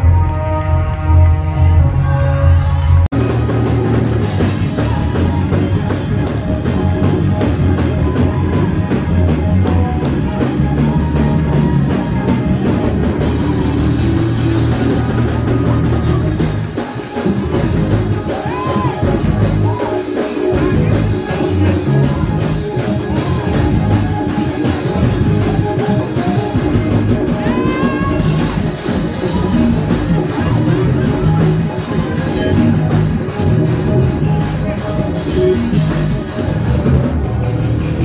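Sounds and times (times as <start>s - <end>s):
band music with drums and bass: 0.0s - 38.0s.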